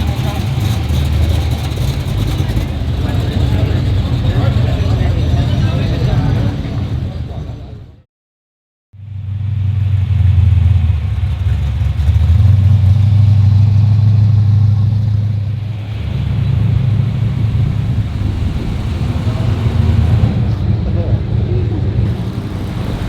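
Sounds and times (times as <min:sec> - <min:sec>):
car engine deep rumble: 0:00.0 - 0:08.0, 0:09.0 - 0:23.0.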